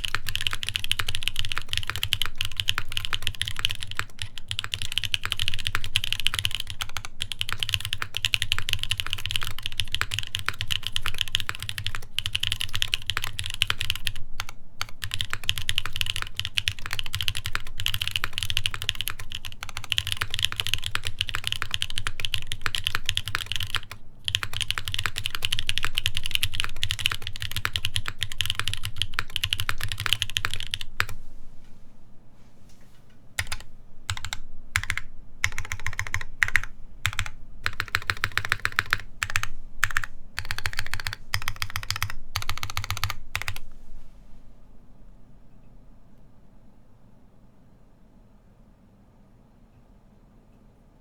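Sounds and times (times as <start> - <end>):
typing on mechanical keyboard: 0.0 - 31.2, 33.4 - 43.6.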